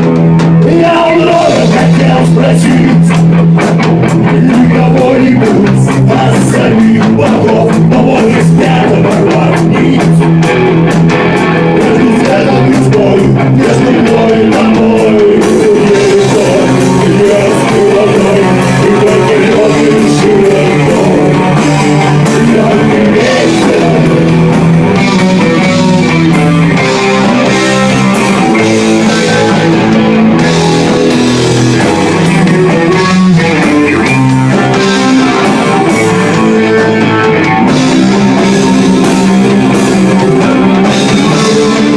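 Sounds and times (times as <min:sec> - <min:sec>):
drum kit beat: 0:00.0 - 0:41.9
electric guitar: 0:00.0 - 0:41.9.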